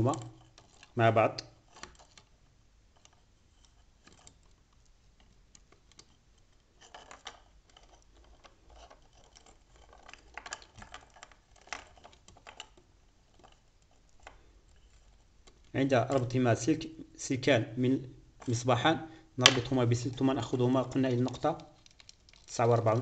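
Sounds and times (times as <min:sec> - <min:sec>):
wires clicking and rustling: 0:00.0 - 0:23.0.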